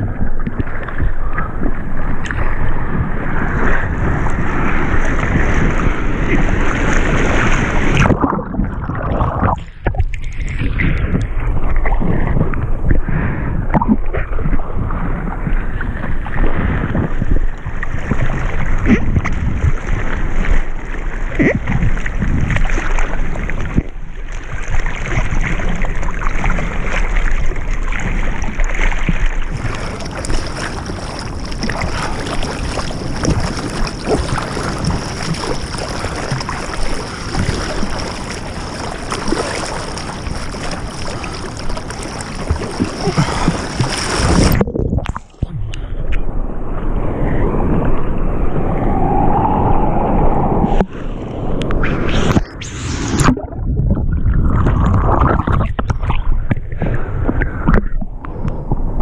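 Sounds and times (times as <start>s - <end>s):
wind buffeting microphone: 0.0s - 23.9s, 27.4s - 59.0s
water rushing and splashing: 0.0s - 59.0s.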